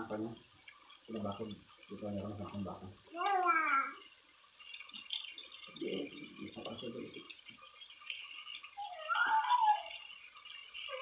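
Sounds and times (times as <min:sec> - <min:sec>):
meat simmering in sauce: 0:00.0 - 0:11.0.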